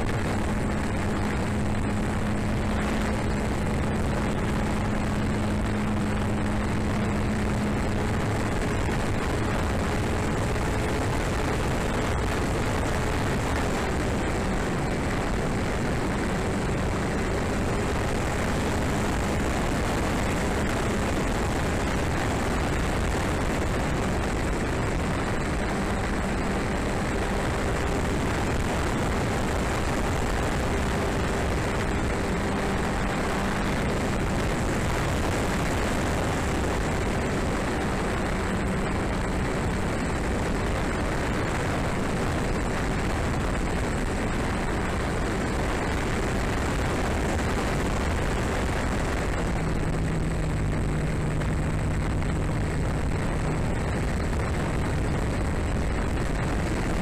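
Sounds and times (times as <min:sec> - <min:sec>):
propeller droning: 0:00.0 - 0:57.0
wind rushing over microphone: 0:00.0 - 0:57.0.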